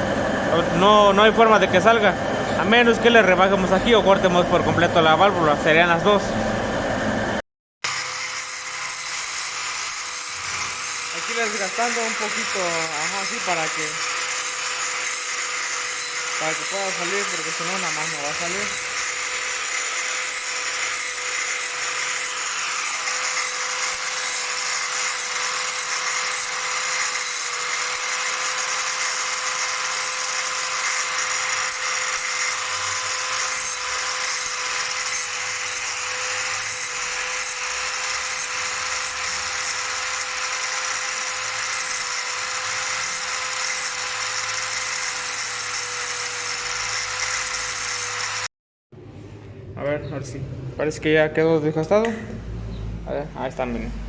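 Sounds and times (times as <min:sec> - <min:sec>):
electric grinder grinding metal: 0:00.0 - 0:48.5.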